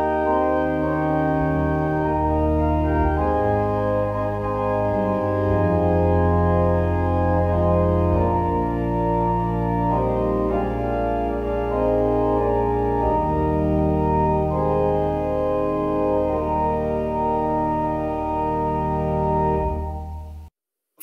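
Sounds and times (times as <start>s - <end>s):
organ playing a hymn: 0.0s - 20.4s.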